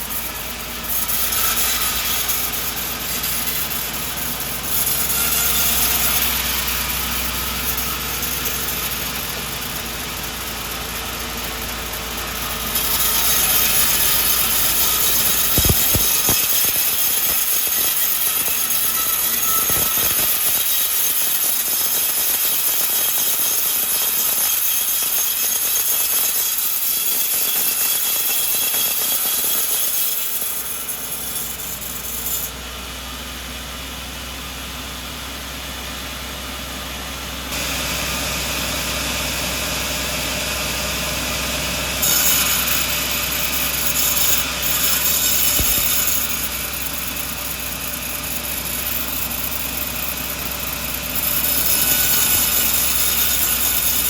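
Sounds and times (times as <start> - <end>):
saw blade cutting log: 0.0 - 32.8, 37.5 - 54.0
saw motor humming: 0.0 - 32.9, 36.7 - 54.0.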